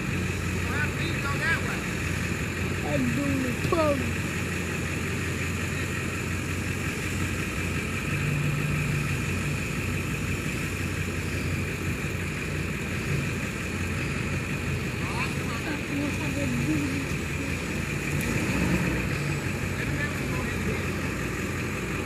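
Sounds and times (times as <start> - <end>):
truck engine running under load: 0.0 - 22.0.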